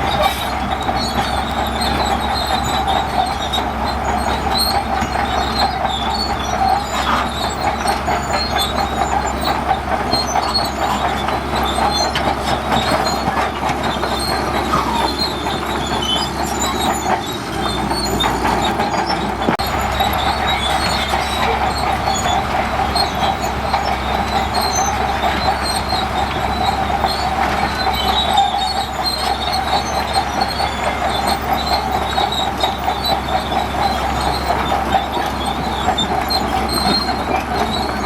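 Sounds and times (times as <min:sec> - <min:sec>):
bulldozer engine running: 0:00.0 - 0:38.0
metallic clatter of crawler tracks: 0:00.0 - 0:38.0.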